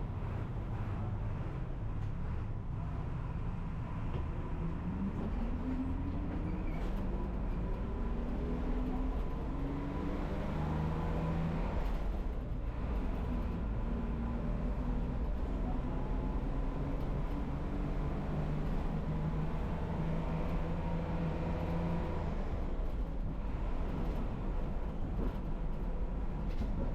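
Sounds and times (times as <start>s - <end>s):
bus engine and road rumble: 0.0s - 26.9s.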